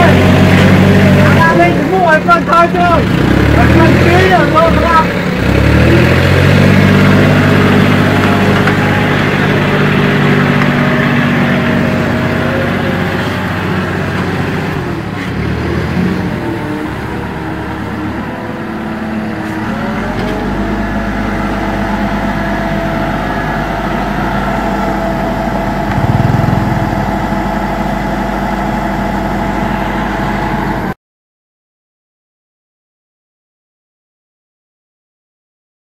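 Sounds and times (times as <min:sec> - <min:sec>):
wheeled excavator engine running: 0:00.0 - 0:30.9
backhoe loader diesel engine: 0:00.0 - 0:31.0.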